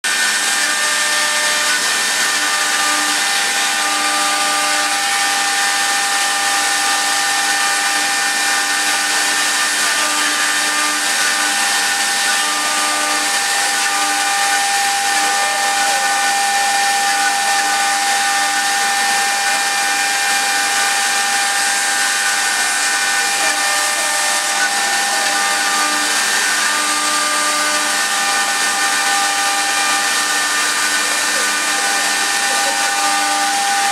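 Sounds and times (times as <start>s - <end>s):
wood turning lathe running: 0.0s - 33.9s.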